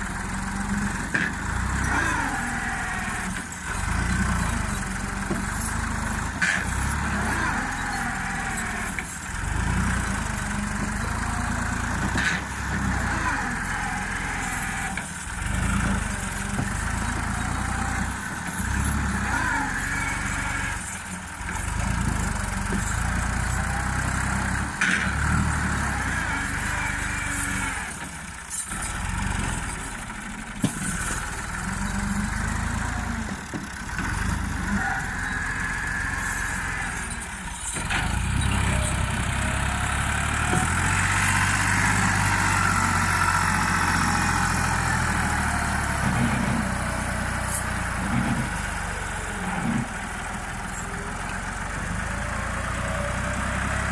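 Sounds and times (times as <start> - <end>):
tractor diesel engine revving: 0.0 - 53.9.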